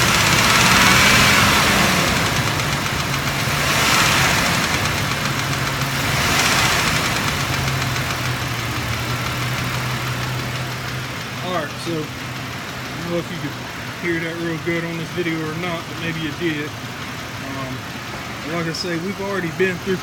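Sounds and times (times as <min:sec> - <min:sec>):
car engine idling: 0:00.0 - 0:20.0
engine lifter tapping: 0:00.0 - 0:20.0.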